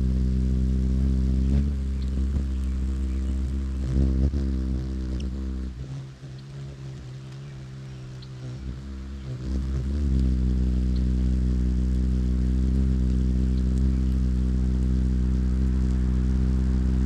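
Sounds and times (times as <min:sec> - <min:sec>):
hummingbird wings humming: 0:00.0 - 0:17.0.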